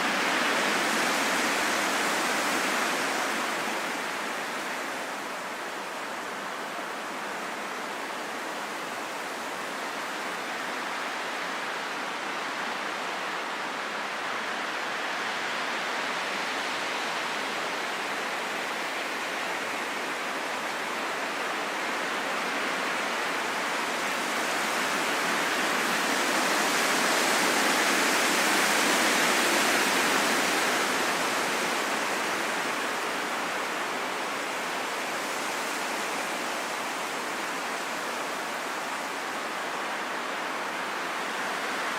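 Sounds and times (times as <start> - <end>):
heavy rain in forest: 0.0 - 41.9.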